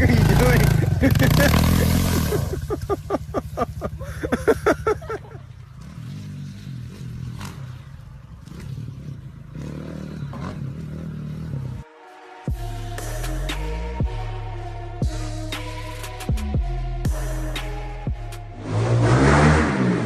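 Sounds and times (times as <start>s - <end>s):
motorcycle engine revving: 0.0s - 11.9s, 15.5s - 20.0s.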